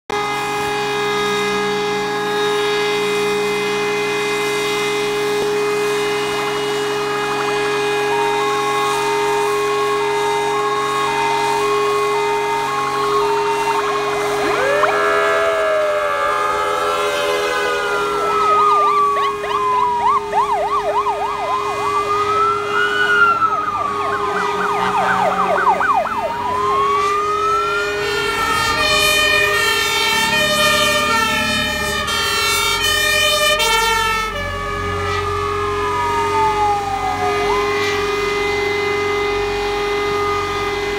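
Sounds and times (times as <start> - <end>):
alternating-tone siren: 0.1 - 40.9
truck engines rumbling: 0.1 - 40.9
wailing sirens: 0.1 - 40.9
yelp siren: 0.2 - 40.9.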